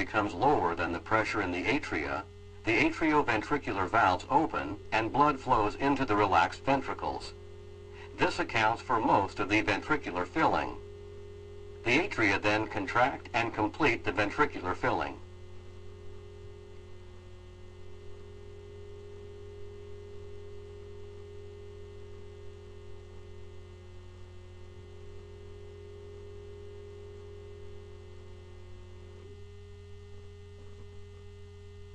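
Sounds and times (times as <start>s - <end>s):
electrical mains hum: 0.0s - 31.9s
faint steady tone: 0.0s - 31.9s.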